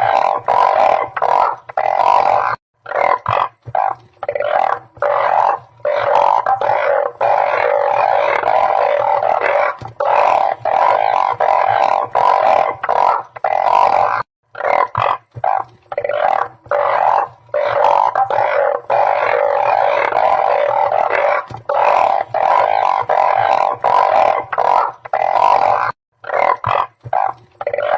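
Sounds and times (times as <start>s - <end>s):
frogs calling in chorus: 0.0s - 27.9s.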